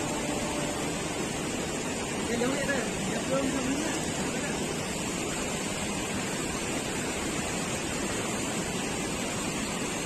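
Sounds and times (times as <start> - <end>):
flowing river water: 0.0 - 10.0.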